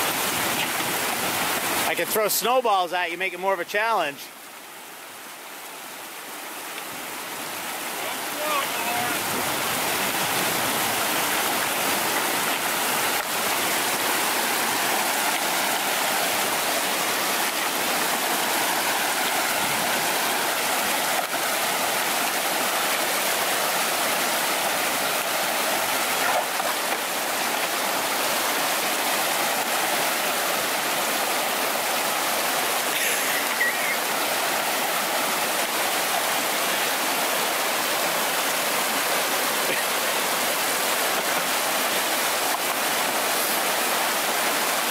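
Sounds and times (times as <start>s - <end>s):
brook rushing over rocks: 7.9s - 44.9s.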